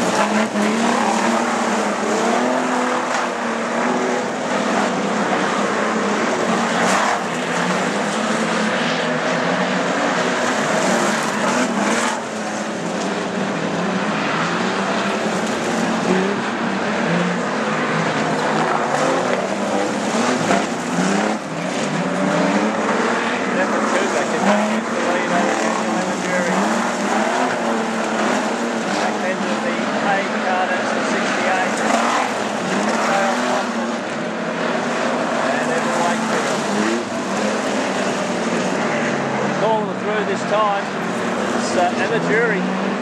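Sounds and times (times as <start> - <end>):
race car engines: 0.0 - 43.0.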